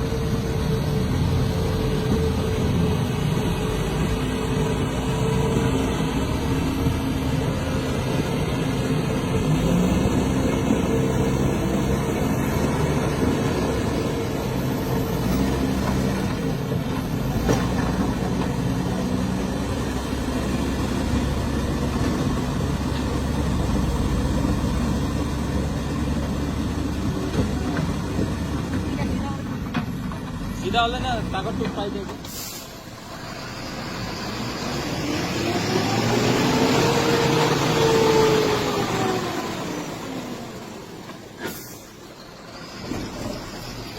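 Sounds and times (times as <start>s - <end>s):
truck engine running: 0.0s - 43.9s.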